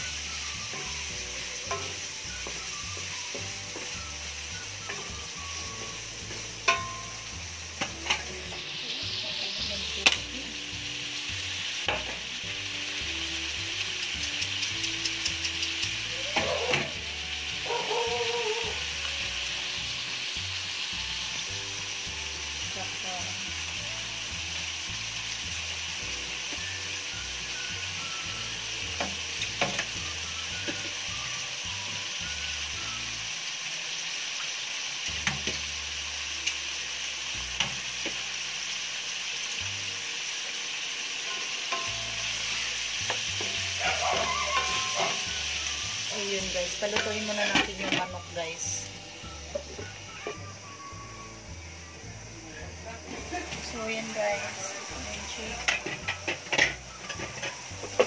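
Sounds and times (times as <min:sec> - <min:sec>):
chicken sizzling in a wok: 0:00.0 - 0:58.0.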